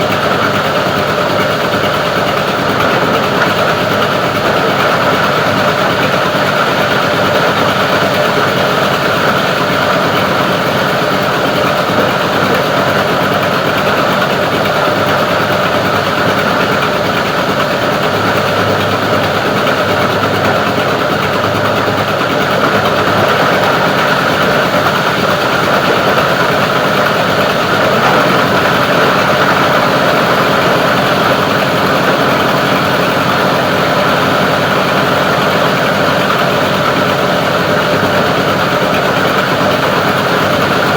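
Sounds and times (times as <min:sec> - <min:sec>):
grinder machine droning: 0:00.0 - 0:40.9.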